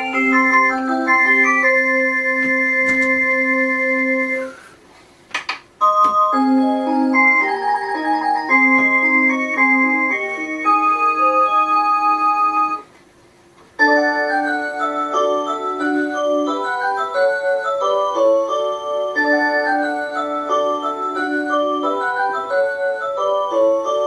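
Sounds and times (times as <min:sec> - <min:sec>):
electronic clock chime melody: 0:00.0 - 0:04.5, 0:05.8 - 0:12.8, 0:13.8 - 0:24.0.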